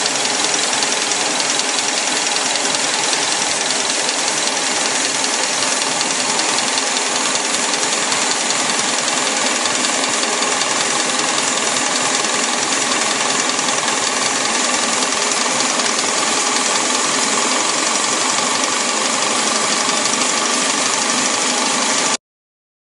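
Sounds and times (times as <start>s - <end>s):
machinery drone with rattling: 0.0s - 22.2s.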